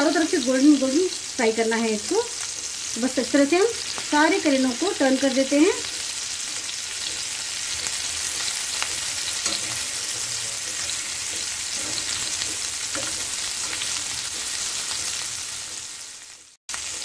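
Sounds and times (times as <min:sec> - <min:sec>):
gourds sizzling in oil: 0:00.0 - 0:17.0.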